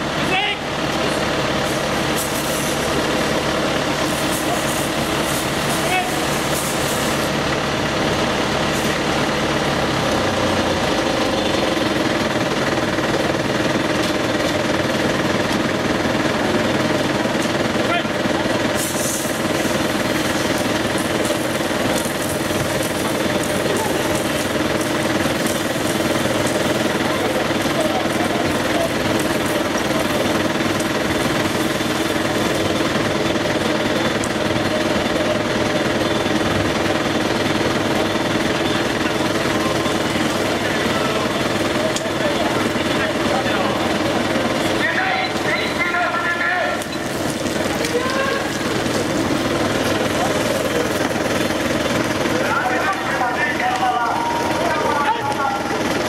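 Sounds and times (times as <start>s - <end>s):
diesel engine at high revs: 0.0s - 56.0s.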